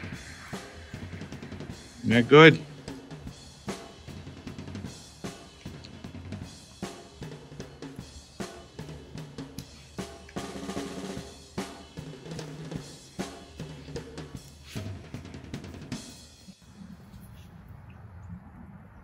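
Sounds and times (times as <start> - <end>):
drum kit beat: 0.0 - 16.5.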